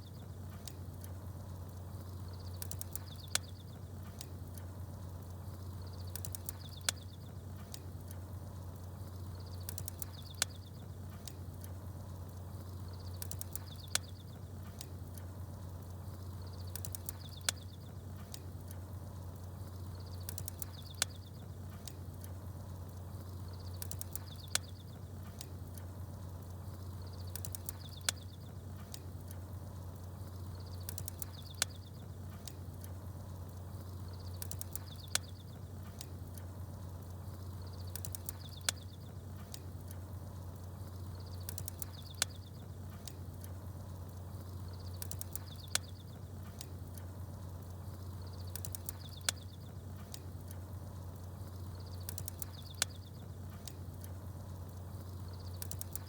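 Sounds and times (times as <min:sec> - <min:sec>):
campfire crackling: 0:00.0 - 0:56.0
small birds chirping: 0:00.0 - 0:56.0
steady low hum: 0:00.0 - 0:56.0.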